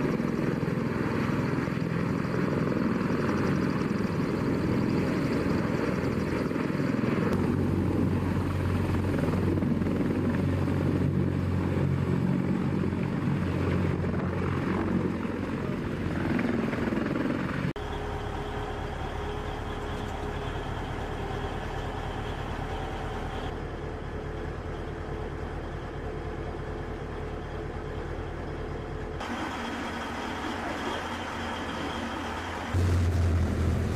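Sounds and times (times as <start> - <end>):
helicopter rotor and turbine noise: 0.0 - 33.9
steady engine drone: 0.0 - 33.9.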